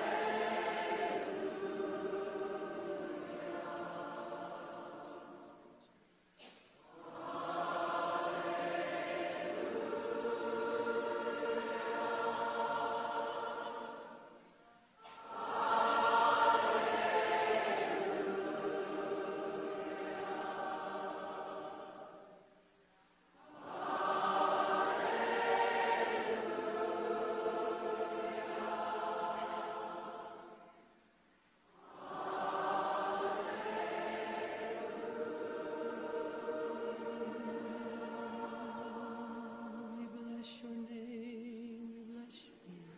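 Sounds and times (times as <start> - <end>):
choir singing: 0.0 - 5.9, 6.8 - 42.9.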